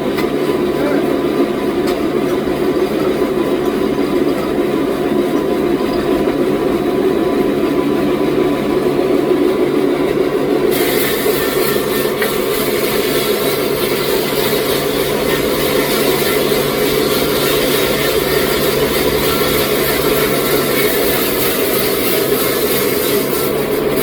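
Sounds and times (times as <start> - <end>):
sawmill machinery drone: 0.0 - 24.0.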